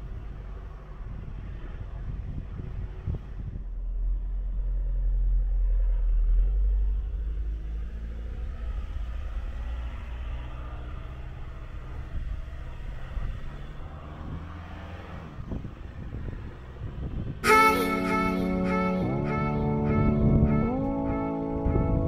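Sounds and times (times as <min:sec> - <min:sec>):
pickup engine and road rumble: 0:00.0 - 0:22.0.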